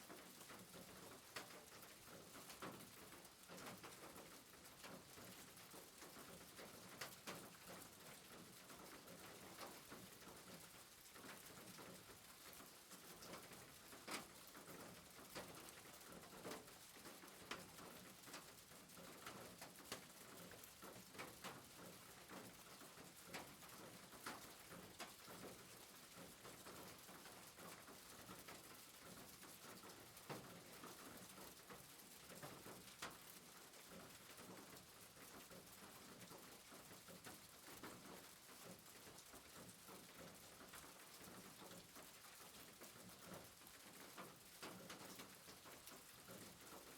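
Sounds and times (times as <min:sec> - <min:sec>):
soft rain hiss: 0:00.0 - 0:46.9
light rain taps: 0:00.1 - 0:46.9.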